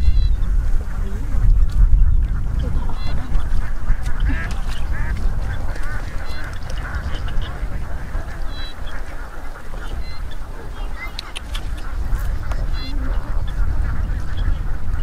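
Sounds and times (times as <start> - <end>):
ducks quacking: 0.0 - 15.0
steady low rumble: 0.0 - 15.0.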